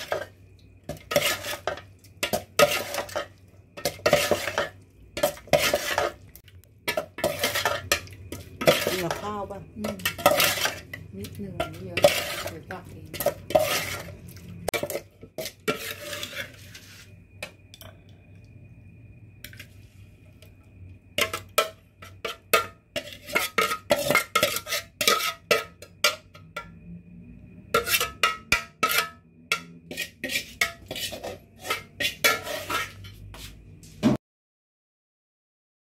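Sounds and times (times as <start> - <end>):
metal spoon scraping a pot: 0.0 - 17.6, 21.2 - 26.8, 27.6 - 33.5.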